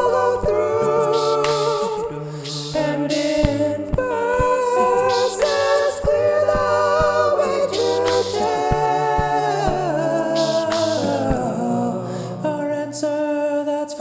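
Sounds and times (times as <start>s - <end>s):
beatboxed kick and snare: 0.0s - 11.7s
sung bass line: 0.0s - 12.6s
a cappella vocal chords: 0.0s - 14.0s.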